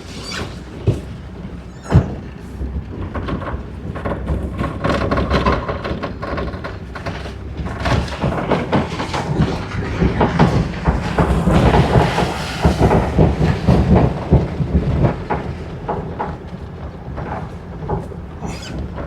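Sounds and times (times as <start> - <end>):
engine rumbling: 0.0 - 19.0
knocks and rattles: 0.1 - 19.0.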